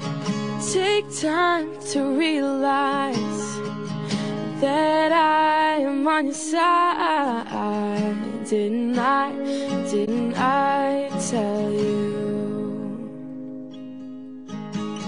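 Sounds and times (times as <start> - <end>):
acoustic guitar: 0.0 - 15.0
person singing: 0.6 - 13.6.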